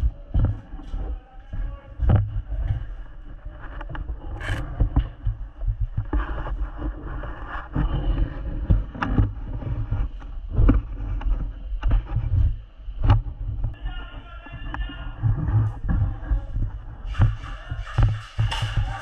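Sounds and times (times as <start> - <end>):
low rumbling: 0.0 - 19.0.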